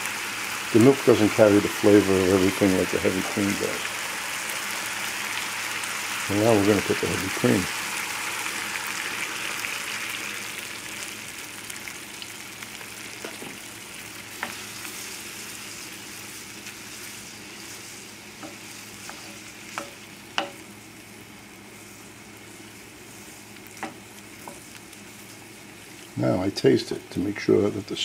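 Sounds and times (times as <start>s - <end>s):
skillet sizzling: 0.0s - 28.0s.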